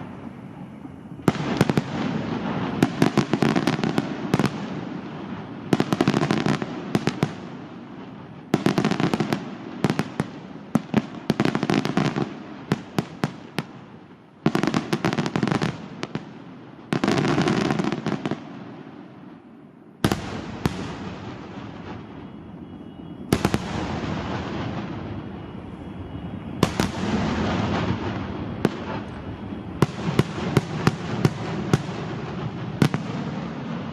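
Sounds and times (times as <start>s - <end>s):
fireworks bangs and cracks: 0.0s - 33.9s.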